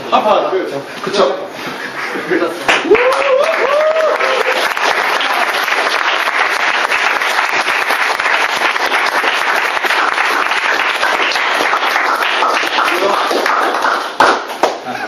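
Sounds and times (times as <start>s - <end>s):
crowd applauding: 2.6s - 14.9s.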